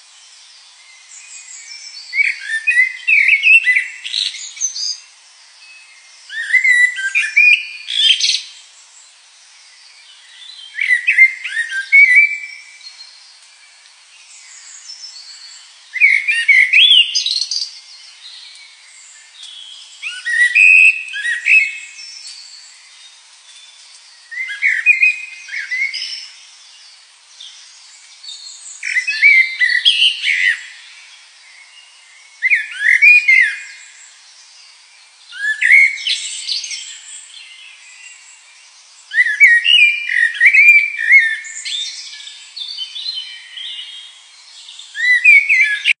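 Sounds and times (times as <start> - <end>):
songbird singing whistles and trills: 0.0 - 46.0.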